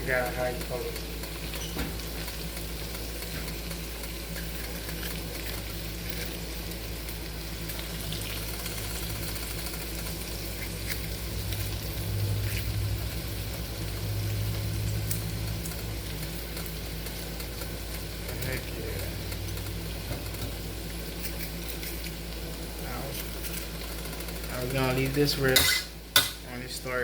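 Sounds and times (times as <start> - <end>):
food sizzling in a pan: 0.0 - 27.0
steady low hum: 0.0 - 27.0.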